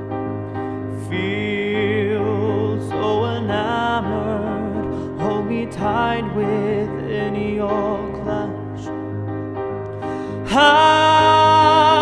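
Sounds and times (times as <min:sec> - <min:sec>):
piano chords: 0:00.0 - 0:12.0
person singing with vibrato: 0:00.9 - 0:09.0, 0:10.1 - 0:12.0.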